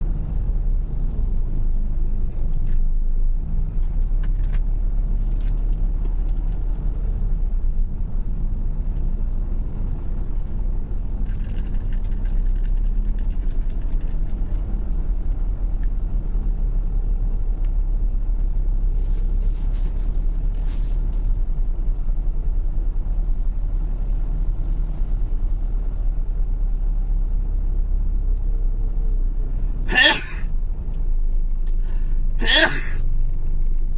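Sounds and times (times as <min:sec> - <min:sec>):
truck engine rumbling: 0:00.0 - 0:33.9.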